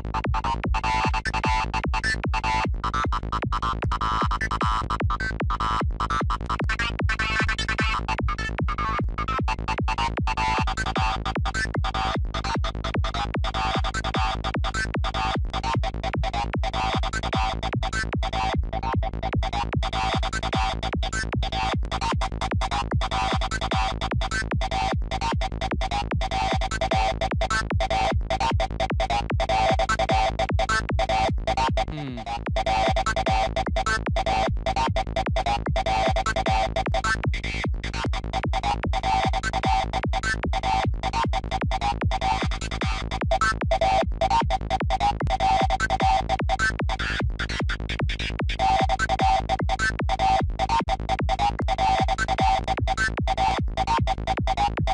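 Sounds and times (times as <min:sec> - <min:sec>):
low bass: 0:00.0 - 0:54.9.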